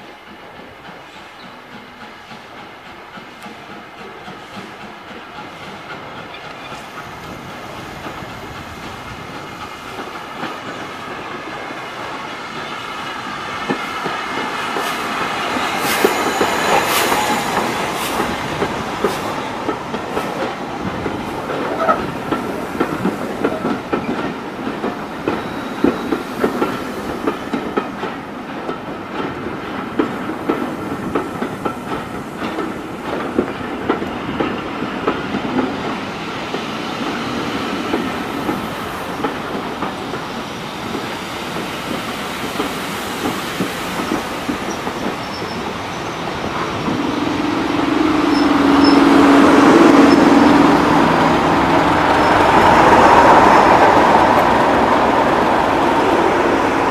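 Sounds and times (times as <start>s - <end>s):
steam locomotive passing: 0.0s - 56.9s
wheels clacking over rail joints: 0.3s - 56.9s.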